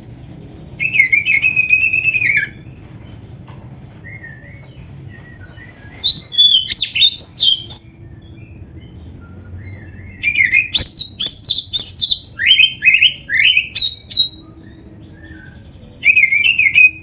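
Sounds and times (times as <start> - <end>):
magpie-robin singing: 0.8 - 2.8, 4.0 - 17.0.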